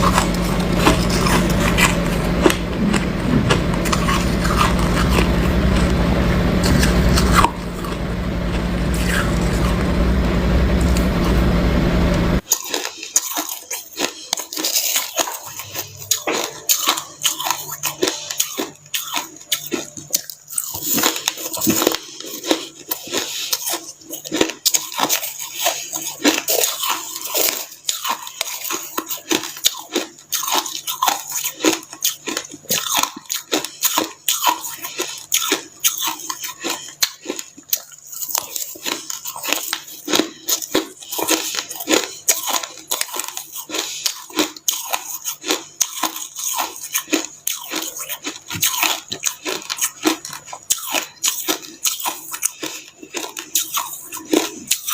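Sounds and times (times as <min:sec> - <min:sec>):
crunching chewing of ice: 0:00.0 - 0:09.9, 0:12.4 - 0:54.9.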